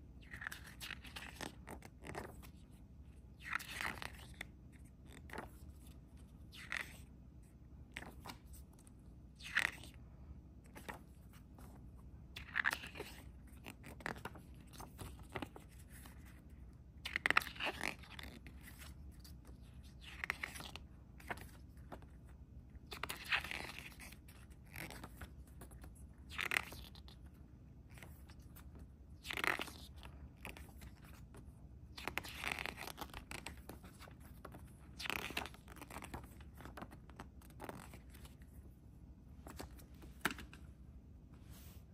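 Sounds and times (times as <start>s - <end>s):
booklet pages turning: 0.2s - 10.0s, 10.6s - 38.8s, 39.4s - 40.7s.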